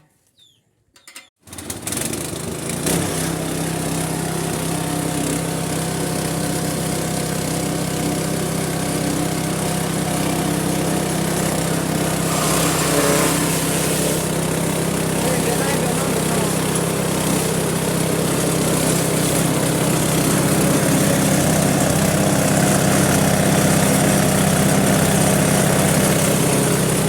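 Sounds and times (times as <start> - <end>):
grass chopper engine running: 1.4 - 27.0.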